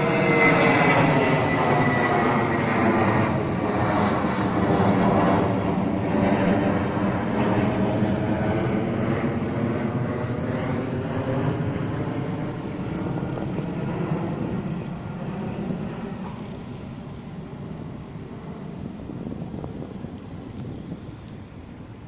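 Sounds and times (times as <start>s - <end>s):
jet plane passing overhead: 0.0s - 22.0s.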